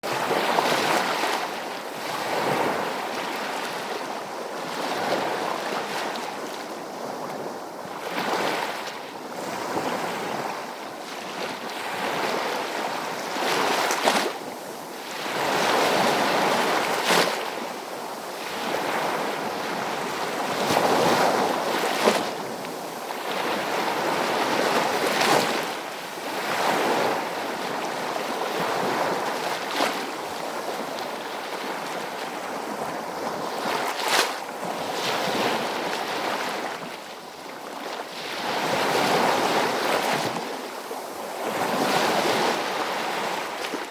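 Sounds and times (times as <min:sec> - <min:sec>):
sea waves breaking: 0:00.0 - 0:43.9
wave splashes: 0:00.0 - 0:43.9.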